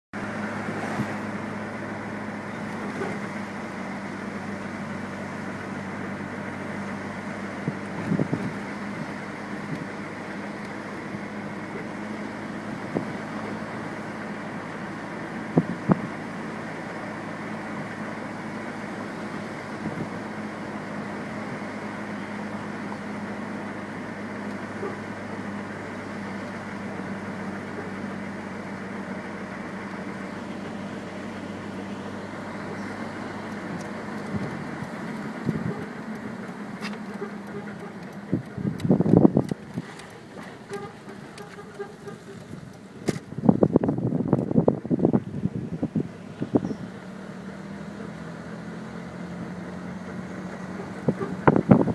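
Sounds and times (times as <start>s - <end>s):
car road noise and engine hum: 0.1s - 51.9s.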